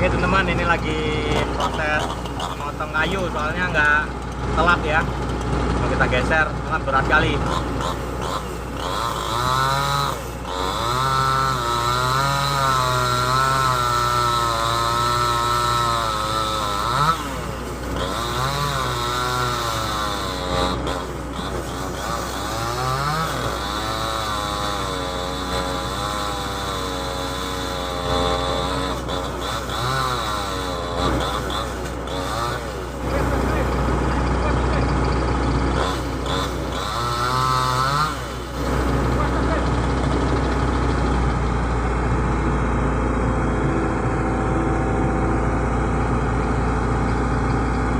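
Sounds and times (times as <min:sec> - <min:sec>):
chainsaw cutting log: 0:00.0 - 0:42.0.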